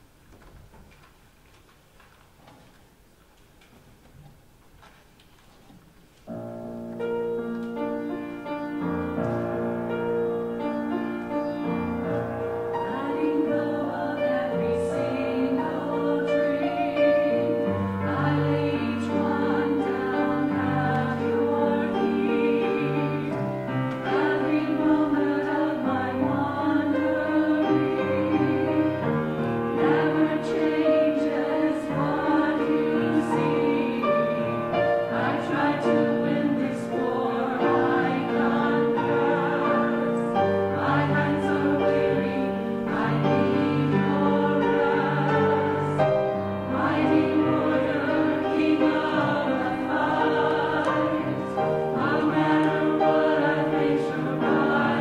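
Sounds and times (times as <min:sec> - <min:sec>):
piano accompaniment: 0:06.2 - 0:55.0
choir singing: 0:07.0 - 0:55.0.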